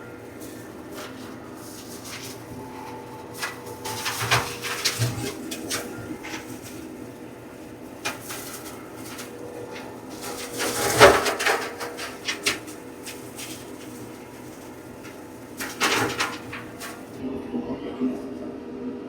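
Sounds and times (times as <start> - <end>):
flail mower striking brush: 0.0 - 17.2
tractor engine hum: 0.0 - 17.2.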